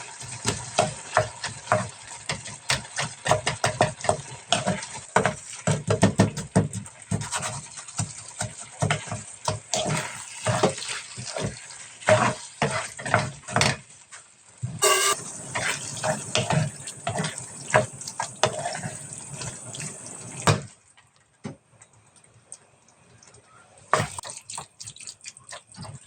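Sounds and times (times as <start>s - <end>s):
food washed in a bowl of water: 0.0s - 14.2s, 15.1s - 20.8s, 23.8s - 26.0s.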